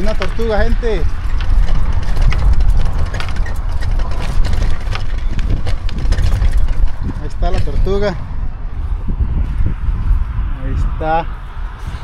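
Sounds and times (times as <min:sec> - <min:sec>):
footsteps on dirt path: 0:00.0 - 0:10.4
wind buffeting microphone: 0:00.0 - 0:12.0.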